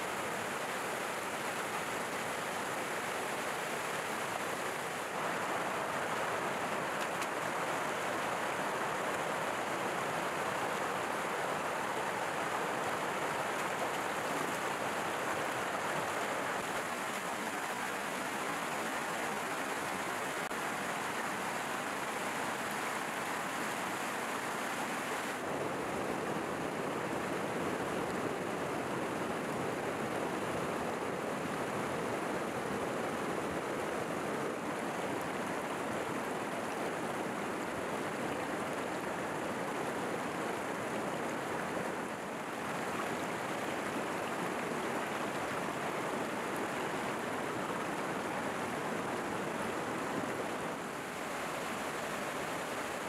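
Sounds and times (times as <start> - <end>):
mountain stream over rocks: 0.0 - 53.0.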